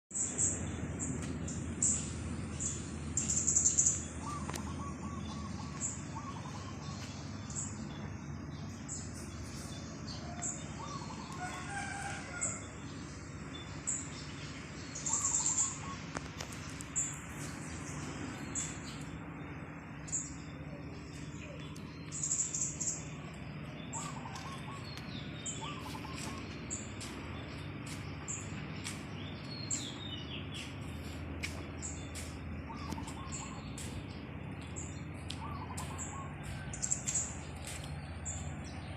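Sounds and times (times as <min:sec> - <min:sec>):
birds chirping: 0:00.1 - 0:38.9
steady low hum: 0:00.1 - 0:38.9.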